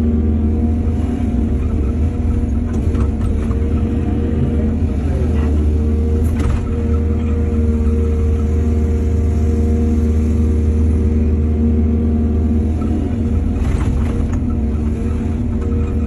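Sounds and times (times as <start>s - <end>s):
diesel engine droning: 0.0s - 16.0s
engine whine: 0.0s - 16.0s.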